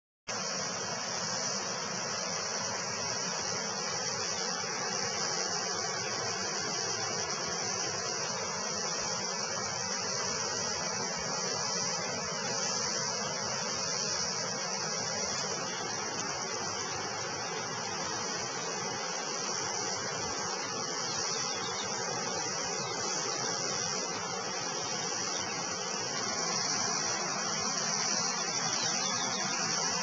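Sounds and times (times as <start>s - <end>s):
even hiss: 0.3s - 30.0s
high-pitched insect buzzing: 0.4s - 30.0s.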